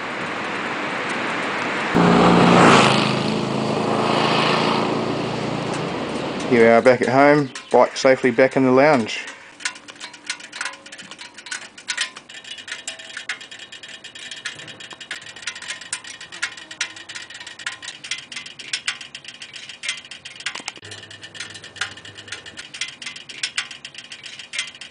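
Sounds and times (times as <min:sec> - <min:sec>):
hot engine ticking as it cools: 0:03.0 - 0:24.9.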